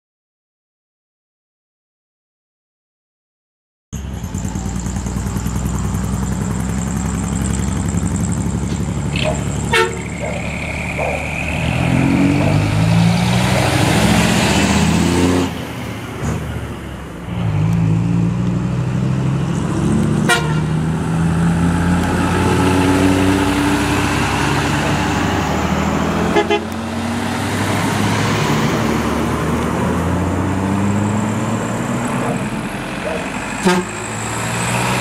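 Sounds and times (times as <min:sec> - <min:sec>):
diesel truck engines revving: 0:04.0 - 0:35.0.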